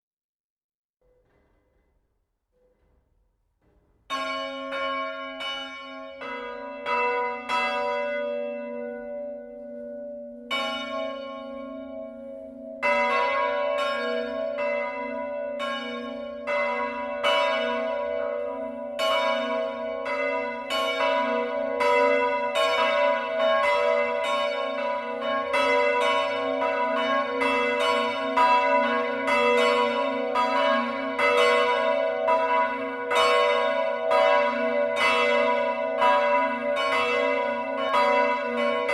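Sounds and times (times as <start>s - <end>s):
church bells ringing: 4.1s - 38.9s.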